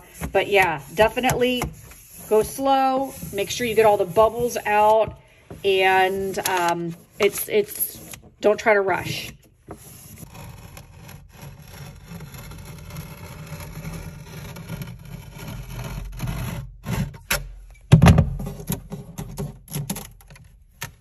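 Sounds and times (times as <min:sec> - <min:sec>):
hand tools scraping contact paper: 0:00.0 - 0:17.2.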